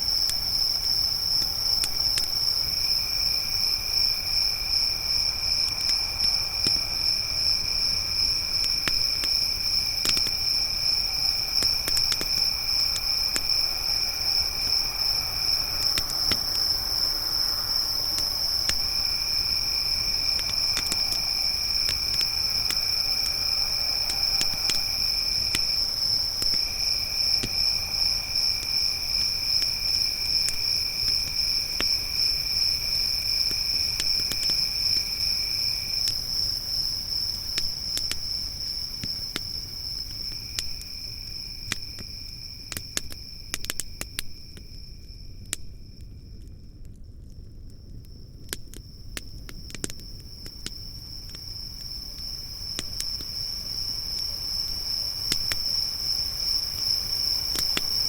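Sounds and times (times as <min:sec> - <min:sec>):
lower insect trill: 0:00.0 - 0:46.6, 0:48.1 - 0:58.0
campfire crackling: 0:00.0 - 0:58.0
crickets trilling: 0:00.0 - 0:58.0.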